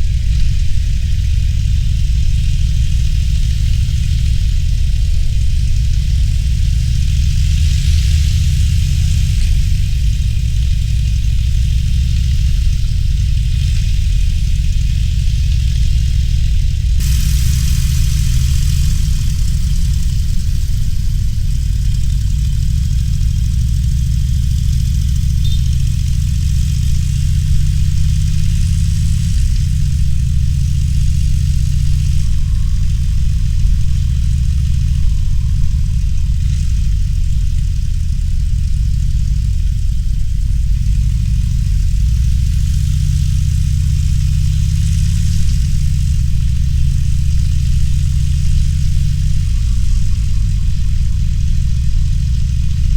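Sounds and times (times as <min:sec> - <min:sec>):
motorcycle engine rumbling: 0:00.0 - 0:52.9
wind and road noise: 0:00.0 - 0:52.9.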